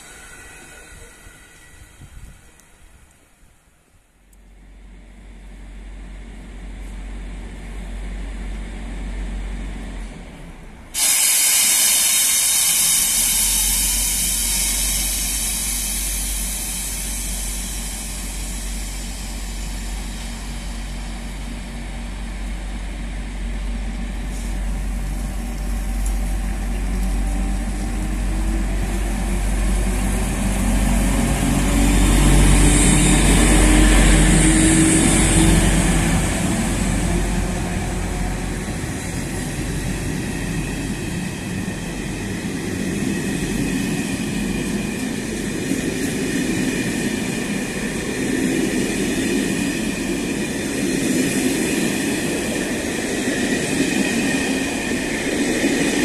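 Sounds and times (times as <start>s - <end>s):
hiss of wheels on rails: 6.2s - 56.0s.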